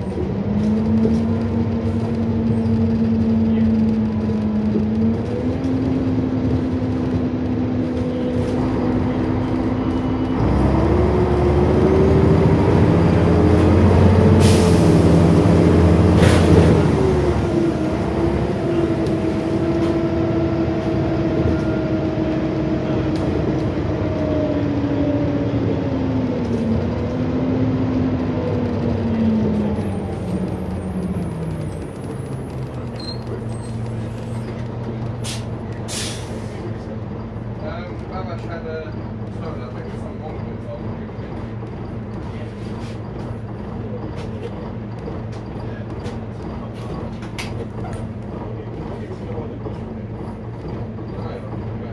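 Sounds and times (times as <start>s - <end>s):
bus diesel engine: 0.0s - 51.9s.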